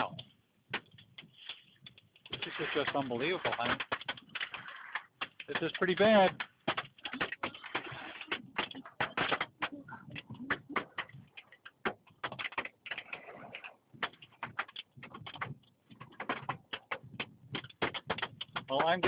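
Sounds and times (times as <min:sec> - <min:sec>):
hailstones clattering: 0:00.8 - 0:19.0.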